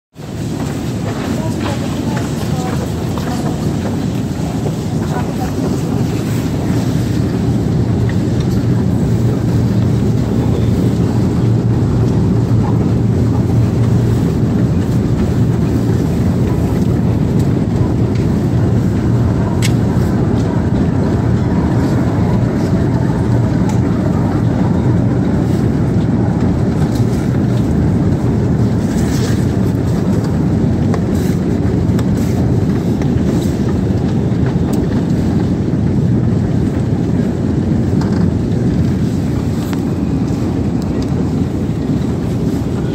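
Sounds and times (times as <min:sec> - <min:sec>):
escalator rumble and hum: 0:00.1 - 0:42.9.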